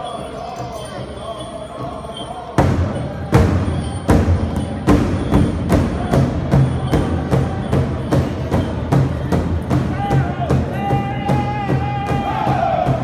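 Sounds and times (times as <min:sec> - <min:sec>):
large drum beaten in unison: 0:02.6 - 0:13.0.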